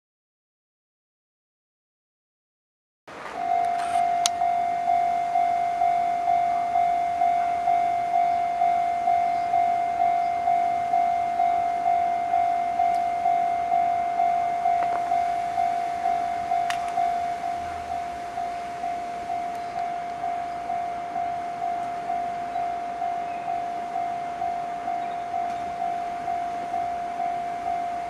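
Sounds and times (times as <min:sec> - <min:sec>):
level crossing warning bell: 0:03.1 - 0:28.0.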